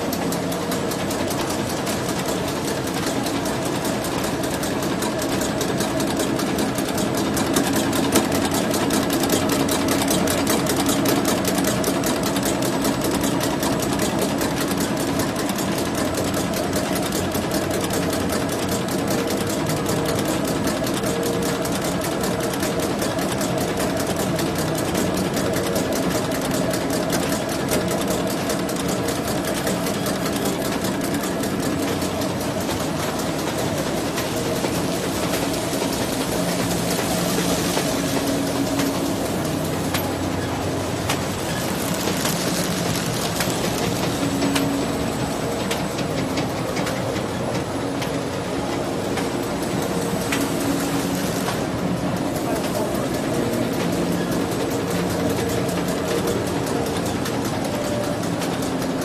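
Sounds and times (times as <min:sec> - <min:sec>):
machine rapid mechanical clatter: 0:00.0 - 0:59.0.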